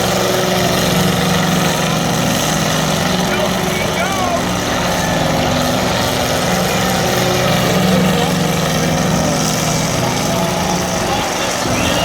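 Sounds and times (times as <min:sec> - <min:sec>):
truck engines droning: 0:00.0 - 0:12.0.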